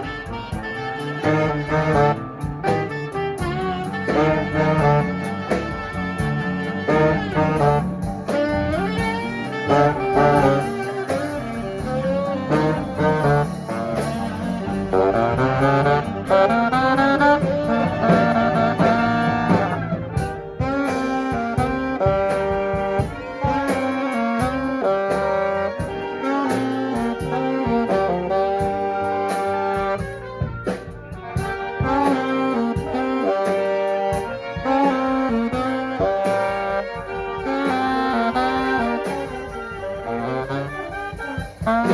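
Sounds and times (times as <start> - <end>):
guitar: 0.0 - 41.9
rhythm section: 0.0 - 41.9
saxophone melody: 0.0 - 41.9.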